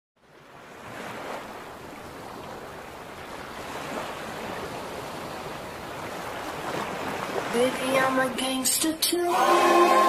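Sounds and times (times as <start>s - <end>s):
wind: 0.2s - 10.0s
waves rushing: 0.3s - 10.0s.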